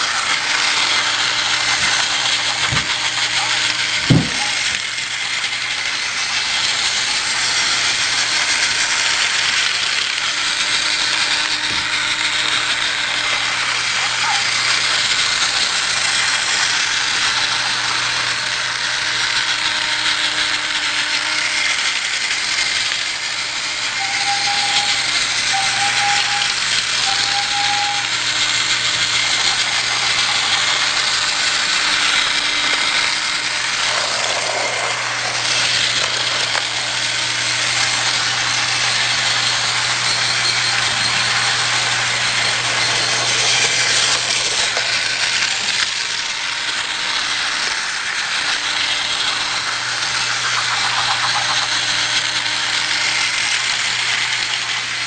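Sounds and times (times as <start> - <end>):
toy train motor rattling on track: 0.0 - 55.0.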